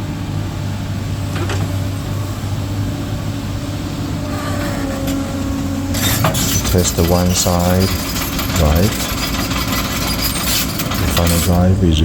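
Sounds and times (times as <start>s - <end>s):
excavator diesel engine running: 0.0s - 12.0s
thin hydraulic whine: 0.0s - 12.0s.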